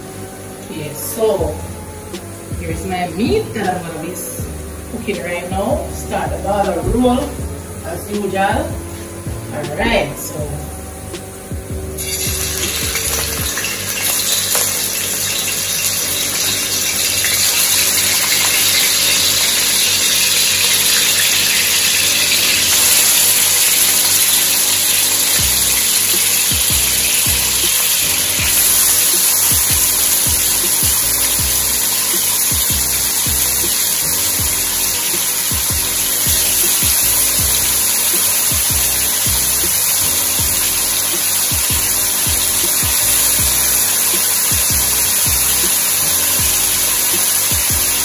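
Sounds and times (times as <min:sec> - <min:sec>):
background music: 0:00.0 - 0:48.0.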